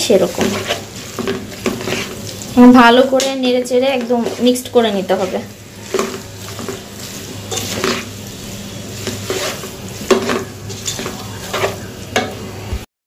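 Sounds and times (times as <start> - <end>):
light sizzle: 0.0 - 12.9
spatula scraping a pot: 0.1 - 12.4.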